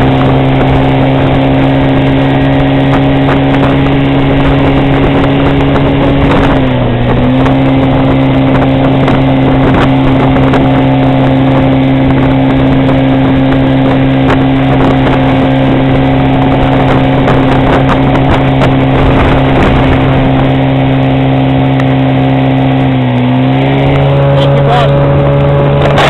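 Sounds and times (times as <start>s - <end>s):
outboard motor running: 0.0s - 26.0s
water rushing from wake: 0.0s - 26.0s.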